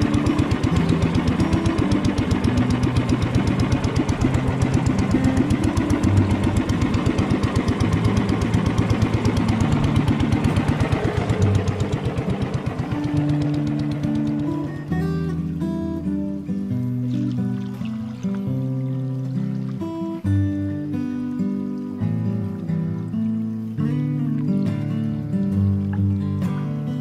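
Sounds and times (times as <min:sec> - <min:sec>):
motor boat engine running: 0:00.0 - 0:27.0.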